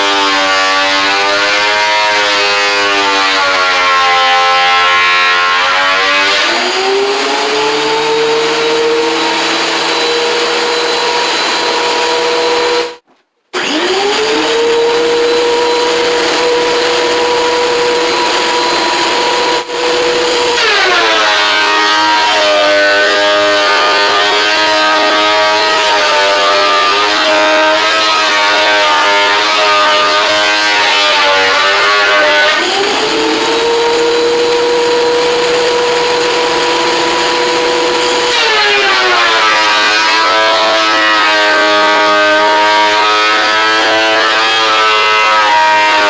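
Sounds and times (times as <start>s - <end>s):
power tool motor whining: 3.9s - 13.0s, 13.6s - 46.0s.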